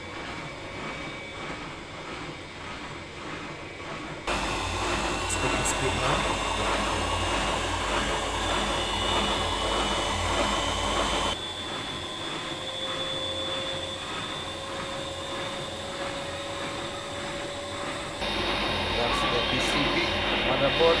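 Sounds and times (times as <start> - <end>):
washing machine spinning with whine: 0.0 - 21.0.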